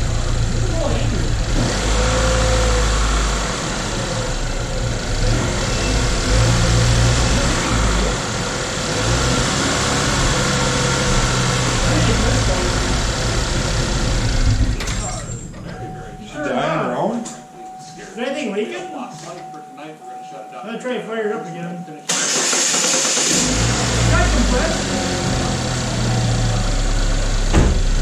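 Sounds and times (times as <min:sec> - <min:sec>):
car engine idling: 0:00.0 - 0:18.2, 0:22.0 - 0:28.0.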